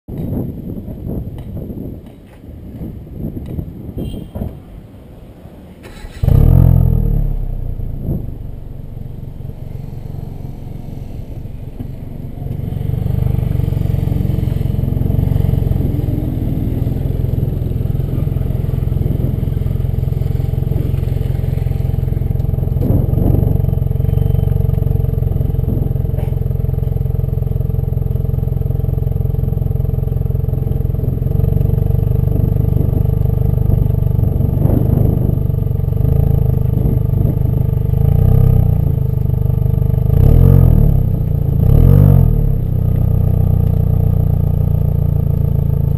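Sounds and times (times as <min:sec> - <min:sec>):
car exhaust engine: 0:05.2 - 0:45.9.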